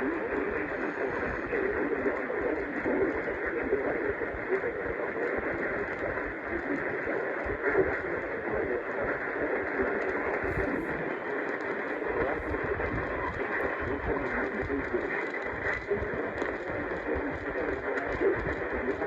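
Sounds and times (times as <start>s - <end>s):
radio static hissing: 0.0s - 19.0s.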